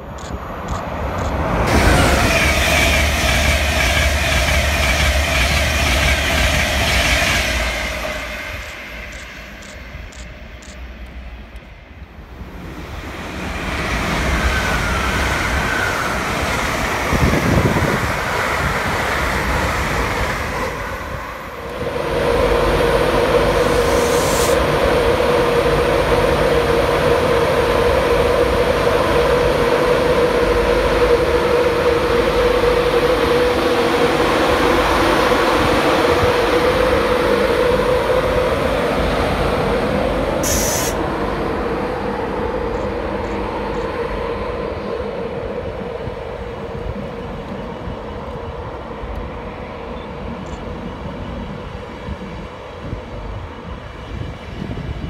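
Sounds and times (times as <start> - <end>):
electric locomotive whine: 0.0 - 55.0
rail noise: 0.0 - 55.0.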